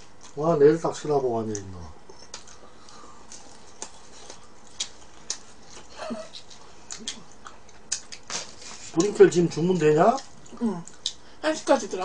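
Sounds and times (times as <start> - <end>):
person chewing crunchy food: 1.4 - 11.2.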